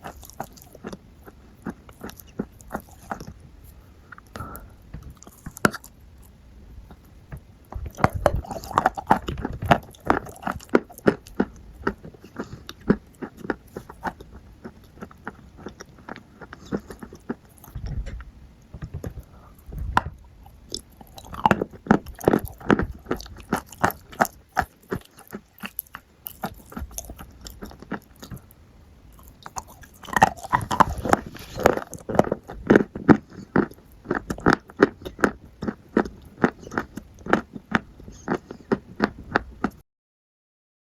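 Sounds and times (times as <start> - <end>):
crunchy chewing: 0.0 - 39.8.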